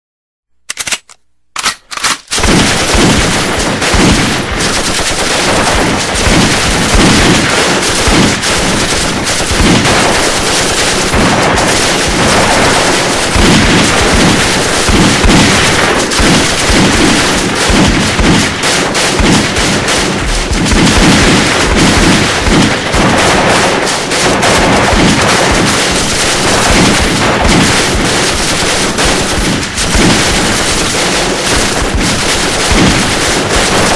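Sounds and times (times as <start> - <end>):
machine-gun bursts: 0.7 - 33.9
pistol and shotgun shots: 0.7 - 33.9.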